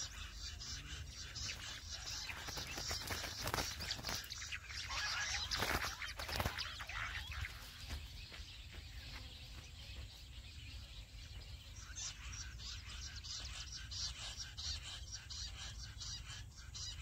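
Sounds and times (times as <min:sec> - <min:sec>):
quail chirping: 0:00.0 - 0:17.0.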